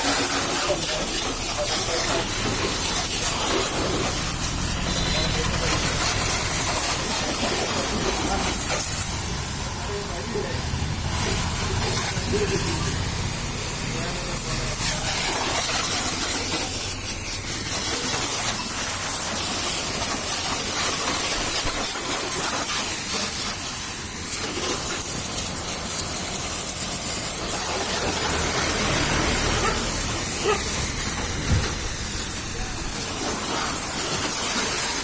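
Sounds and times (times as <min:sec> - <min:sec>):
pressure washer spraying water: 0:00.0 - 0:35.0.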